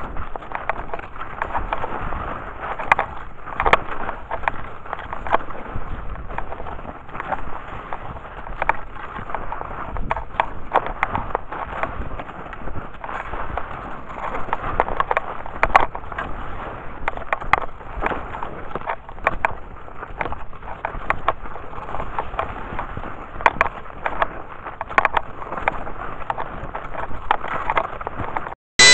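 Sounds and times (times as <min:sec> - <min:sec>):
skis sliding through snow: 0:00.0 - 0:28.5.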